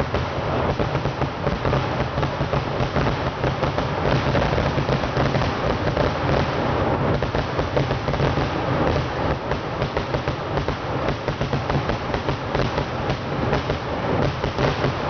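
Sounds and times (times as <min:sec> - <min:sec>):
rapid firecracker bangs: 0:00.0 - 0:15.0.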